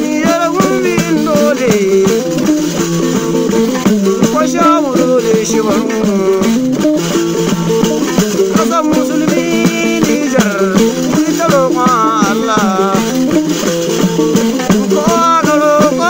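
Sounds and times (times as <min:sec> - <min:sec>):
string instruments sliding melody: 0:00.0 - 0:16.0.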